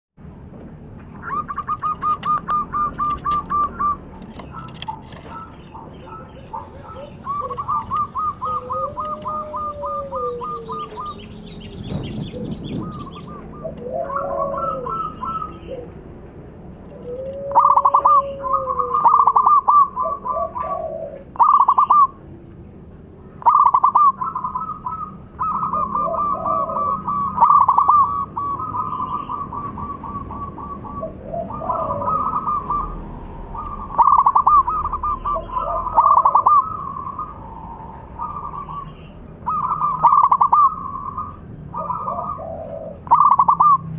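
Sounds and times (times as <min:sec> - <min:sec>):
dove cooing: 0:01.2 - 0:16.1, 0:16.9 - 0:22.2, 0:23.4 - 0:43.9.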